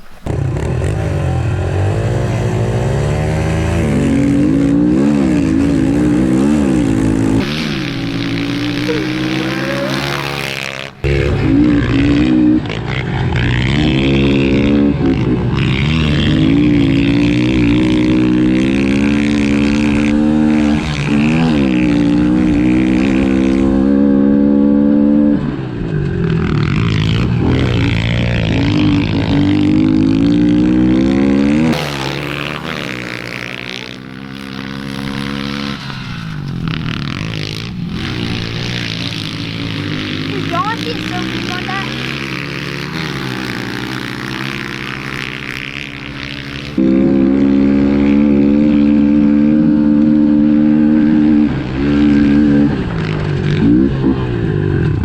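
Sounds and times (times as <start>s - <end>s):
pit bike engine revving: 0.0s - 55.0s.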